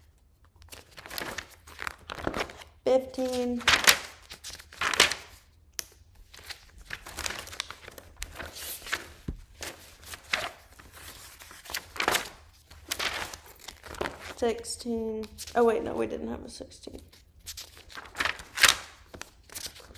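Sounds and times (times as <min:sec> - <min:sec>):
paper rustling: 0:00.1 - 0:15.6, 0:17.0 - 0:19.9.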